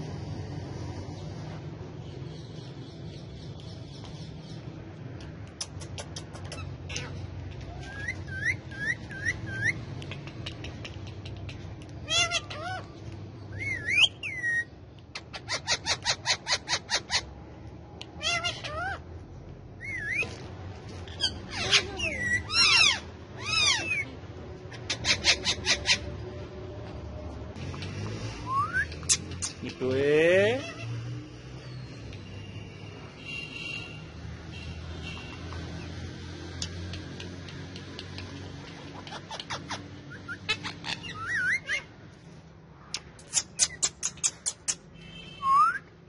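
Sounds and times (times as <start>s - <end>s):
parakeets calling and chattering: 0.0s - 19.2s, 19.8s - 26.7s, 27.5s - 45.8s.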